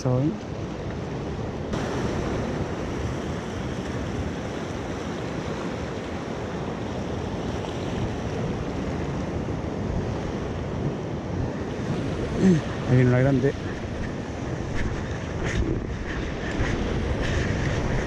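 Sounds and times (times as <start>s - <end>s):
sea surf on rocky shore: 0.0s - 18.0s
wind buffeting microphone: 0.2s - 18.0s.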